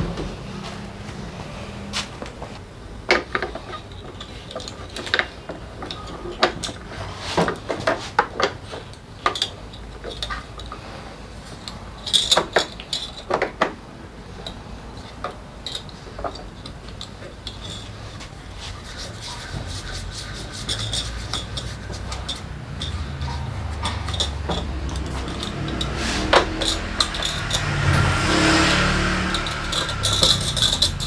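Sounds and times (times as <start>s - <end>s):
hand tools clinking and knocking: 3.1s - 13.8s, 14.4s - 31.0s.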